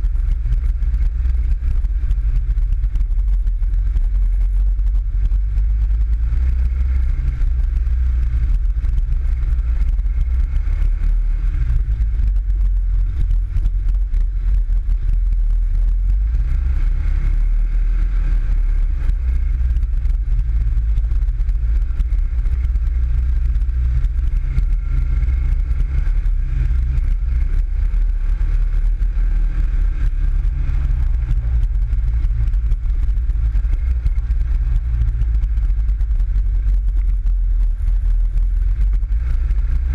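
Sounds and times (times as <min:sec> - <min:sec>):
buggy engine running: 0:00.0 - 0:39.9.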